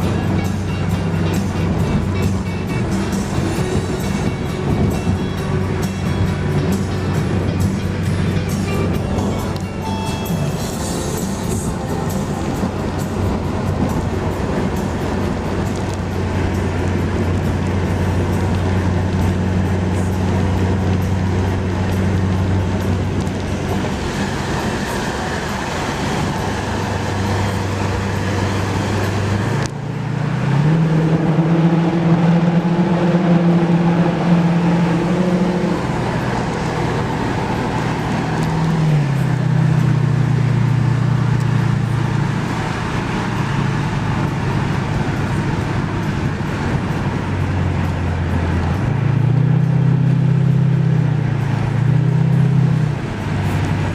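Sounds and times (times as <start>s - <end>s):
car engine running: 0.0s - 53.9s.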